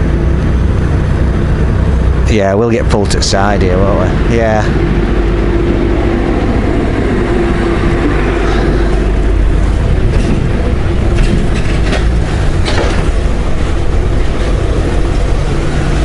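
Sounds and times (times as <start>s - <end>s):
faint hum: 0.0s - 16.0s
motorcycle engine rumbling: 0.0s - 16.0s.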